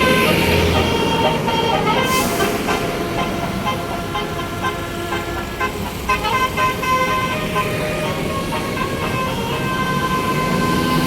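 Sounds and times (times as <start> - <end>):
bus multi-tone horn tune: 0.0 - 11.0.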